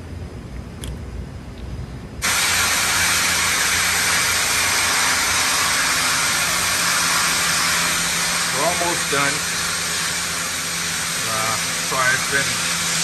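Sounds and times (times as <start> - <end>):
loud steady hiss: 2.2 - 13.0.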